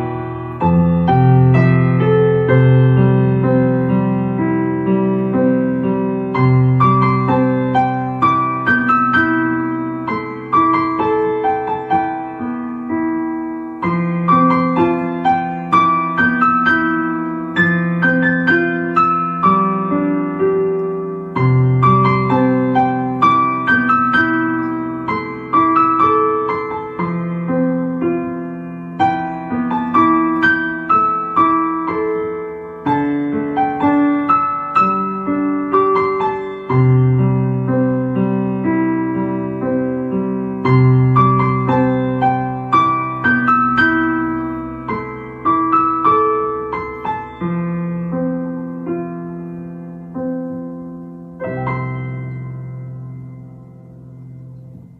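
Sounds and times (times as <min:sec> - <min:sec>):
mellow piano music: 0:00.0 - 0:54.9.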